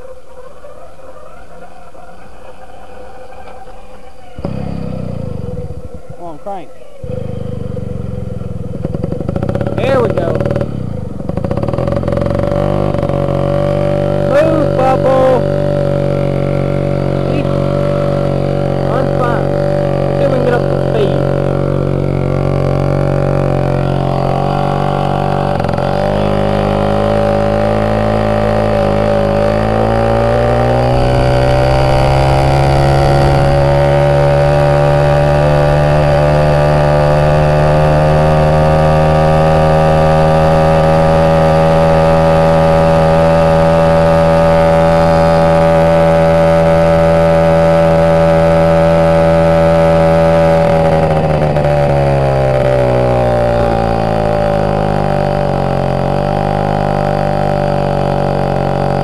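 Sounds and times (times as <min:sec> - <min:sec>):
moped engine revving: 0:00.0 - 0:59.0.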